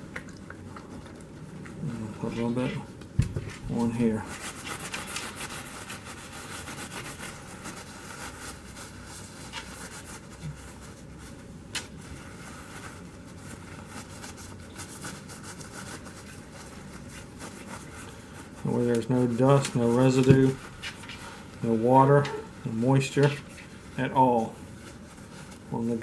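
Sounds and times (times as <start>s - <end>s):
paper towel rubbing on metal: 1.8s - 2.9s, 3.5s - 26.0s.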